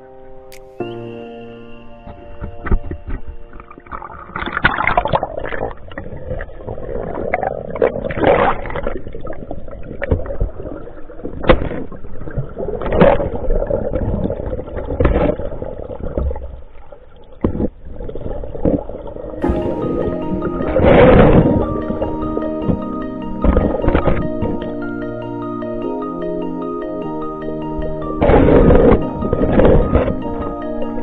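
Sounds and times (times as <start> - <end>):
water splashing and sloshing: 2.0 - 25.6, 27.9 - 31.0.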